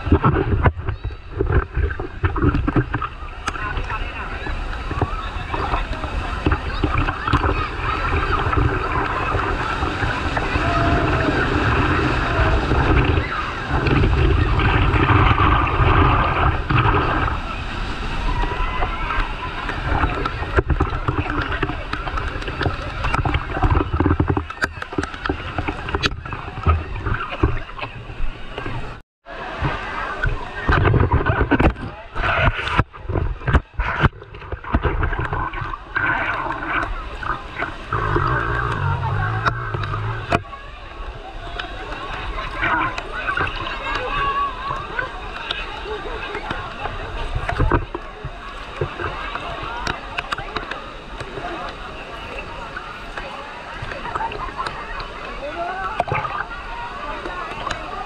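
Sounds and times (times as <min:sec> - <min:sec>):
muffled underwater gurgling: 0:00.0 - 0:58.0
rushing churning water: 0:00.0 - 0:58.0.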